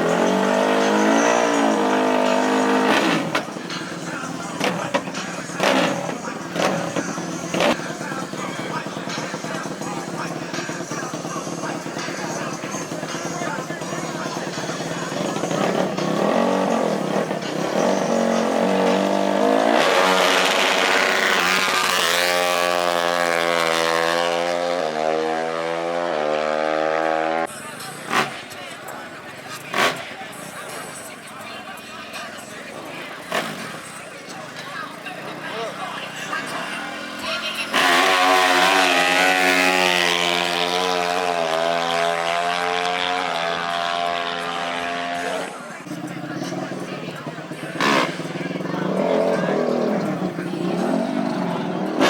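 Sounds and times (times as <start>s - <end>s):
racing engine revving: 0.0s - 31.1s, 32.2s - 52.0s.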